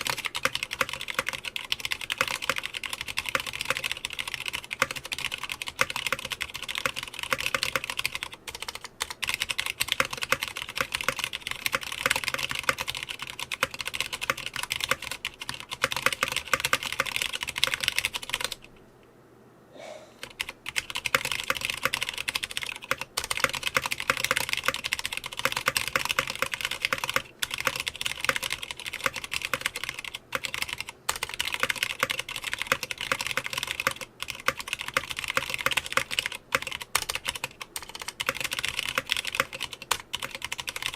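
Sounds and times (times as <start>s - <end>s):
fast mechanical keyboard typing: 0.0s - 18.7s, 20.2s - 40.9s.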